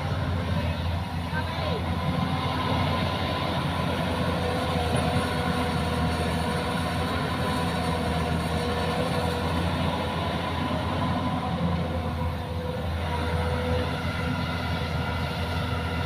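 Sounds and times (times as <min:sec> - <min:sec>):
diesel engine drone with whine: 0:00.0 - 0:16.0.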